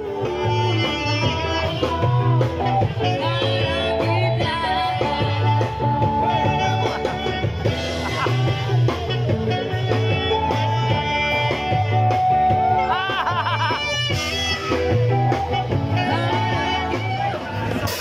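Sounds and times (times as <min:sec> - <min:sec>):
bass guitar: 0:00.0 - 0:18.0
drums: 0:00.0 - 0:18.0
electric guitar: 0:00.0 - 0:18.0.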